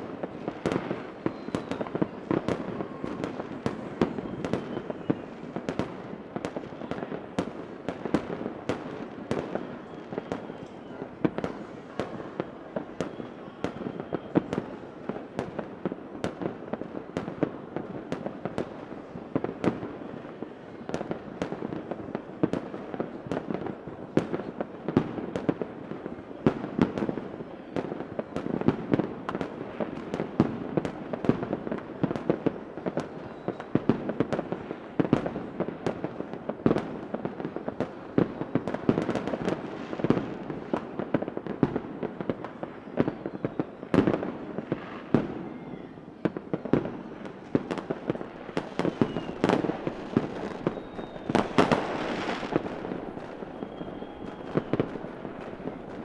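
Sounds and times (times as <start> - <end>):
faint fireworks whistles: 0.0 - 56.0
fireworks bangs and crackles: 0.0 - 56.0.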